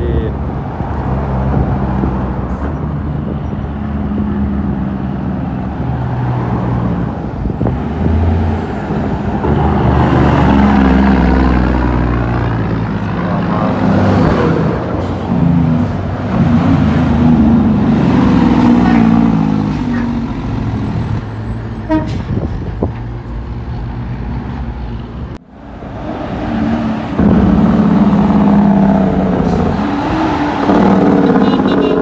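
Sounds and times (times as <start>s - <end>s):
diesel truck engine driving: 0.0s - 32.0s.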